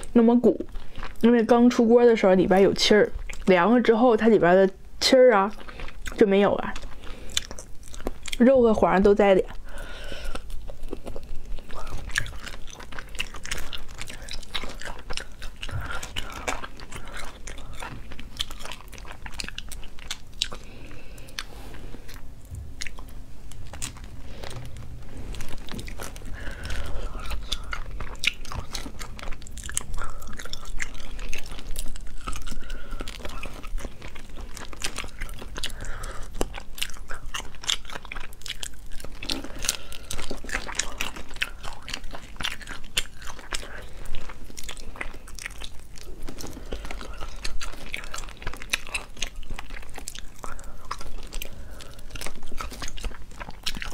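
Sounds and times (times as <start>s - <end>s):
chewing: 0.0s - 3.7s, 5.3s - 53.9s.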